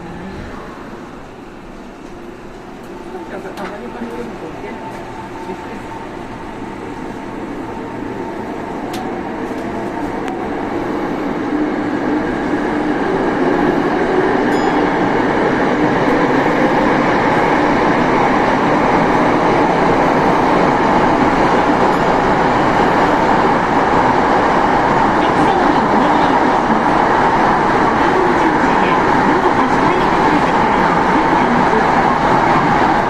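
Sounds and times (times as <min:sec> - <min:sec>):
electric train running on rails: 0:00.0 - 0:33.0.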